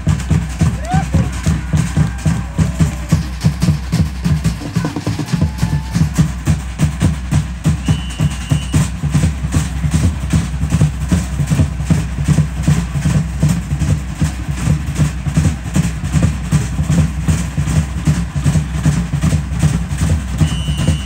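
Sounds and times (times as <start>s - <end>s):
drum ensemble playing fast beat: 0.0s - 21.0s.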